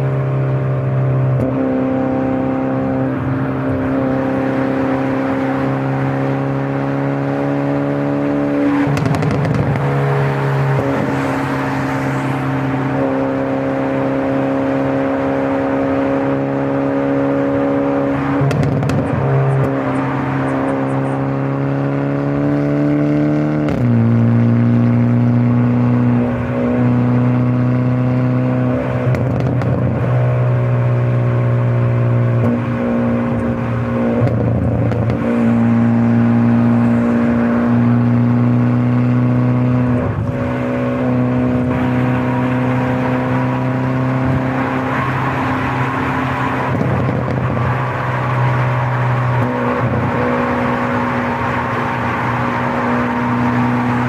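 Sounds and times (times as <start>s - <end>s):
car engine and exhaust accelerating: 0.0s - 54.0s.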